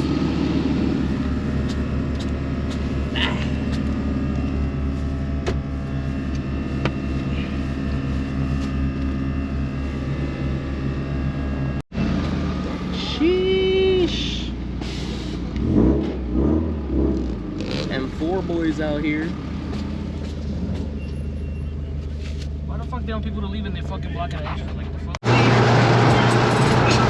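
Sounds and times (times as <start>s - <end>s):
car engines idling: 0.0s - 27.0s.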